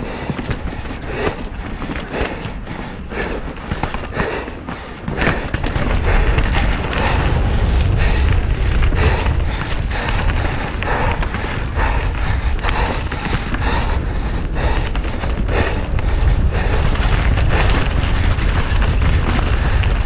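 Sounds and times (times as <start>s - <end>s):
mountain bike rattling and knocking: 0.0s - 20.0s
wind buffeting microphone: 0.0s - 20.0s.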